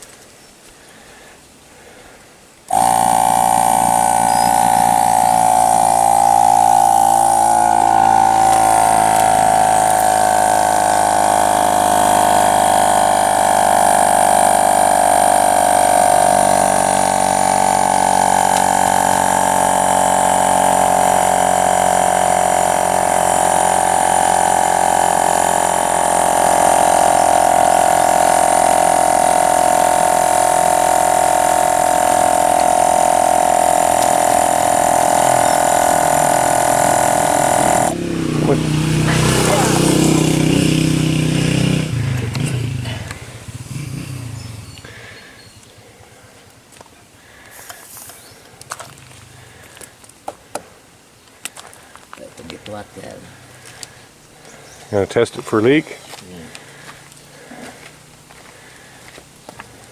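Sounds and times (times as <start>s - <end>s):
air compressor whining: 2.7s - 46.0s, 53.0s - 59.9s.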